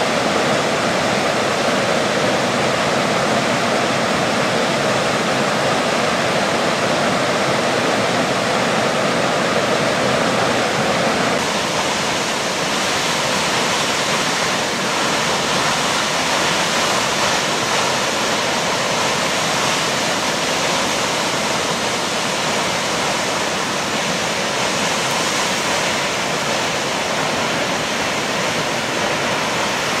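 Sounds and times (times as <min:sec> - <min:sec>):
large waterfall rushing: 0:00.0 - 0:30.0.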